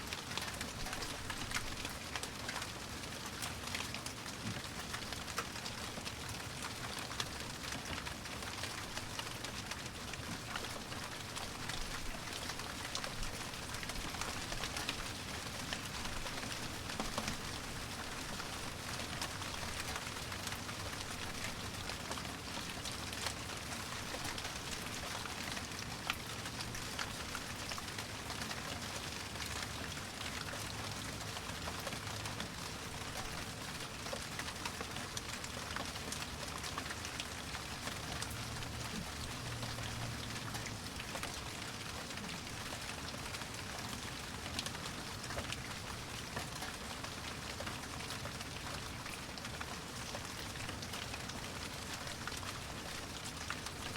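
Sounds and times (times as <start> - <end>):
rain drops ticking: 0.0 - 53.9.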